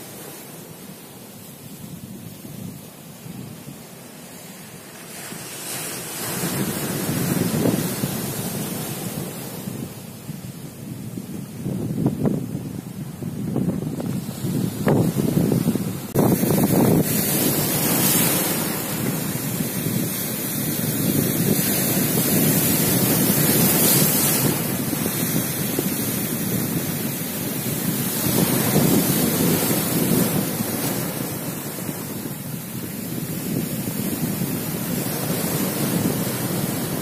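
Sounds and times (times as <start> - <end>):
surf breaking over rocks: 0.0 - 12.8, 13.4 - 37.0
wind buffeting microphone: 6.0 - 37.0.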